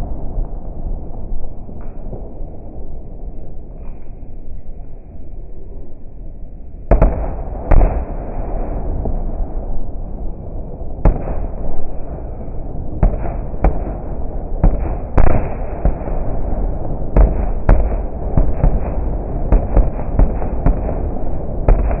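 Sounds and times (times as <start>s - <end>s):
fireworks rumble: 0.0s - 22.0s.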